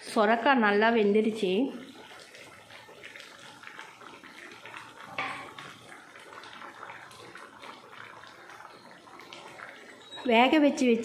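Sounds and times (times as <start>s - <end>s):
gravy bubbling and popping: 0.0s - 11.0s.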